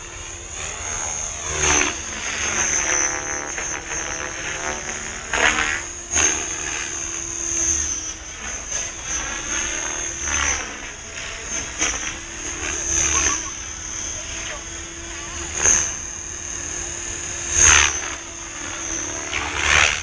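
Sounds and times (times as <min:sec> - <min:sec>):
rc helicopter rotor whooshes: 0:00.0 - 0:20.0.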